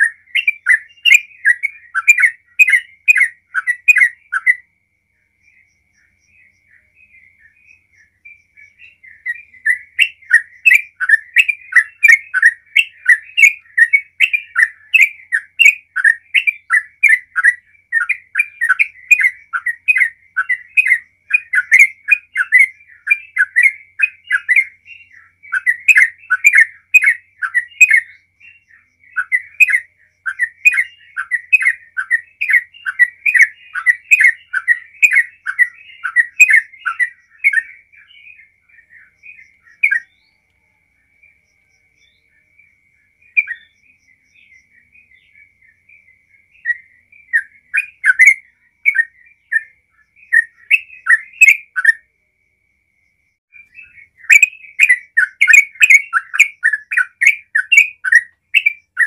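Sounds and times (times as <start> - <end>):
bulbul chirping song: 0.0 - 59.0.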